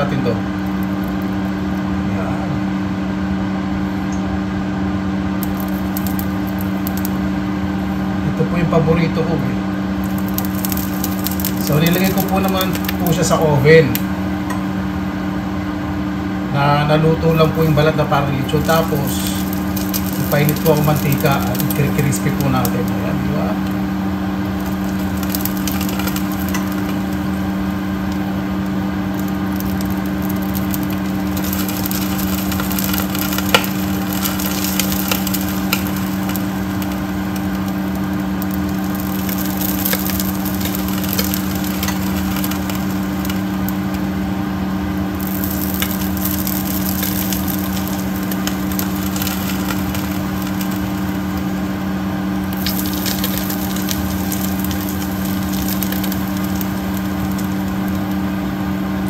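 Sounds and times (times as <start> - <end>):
pork skin sizzling in hot oil: 0.0 - 2.0, 4.7 - 8.2, 9.6 - 59.0
steady low hum: 0.0 - 59.0.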